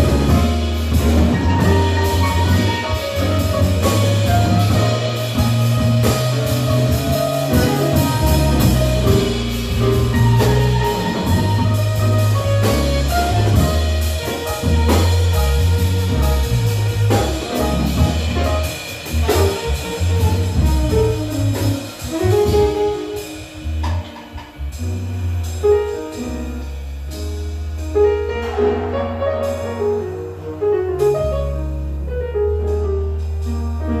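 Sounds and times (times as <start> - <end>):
saxophone: 0.0 - 24.5, 28.0 - 32.2
drum kit: 0.0 - 34.0
electric bass guitar: 0.0 - 34.0
piano: 0.0 - 34.0.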